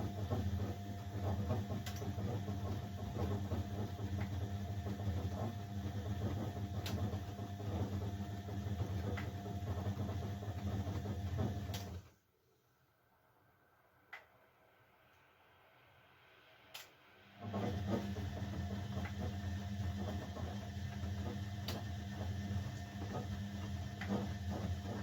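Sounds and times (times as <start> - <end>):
washing machine motor hum: 0.0 - 12.2, 15.7 - 25.0.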